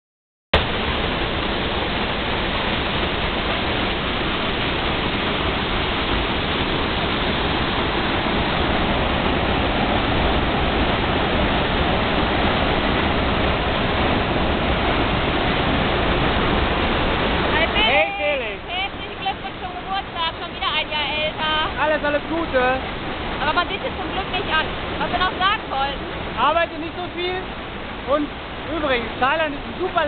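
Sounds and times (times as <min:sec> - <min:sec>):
water rushing down waterfall: 0:00.6 - 0:30.0.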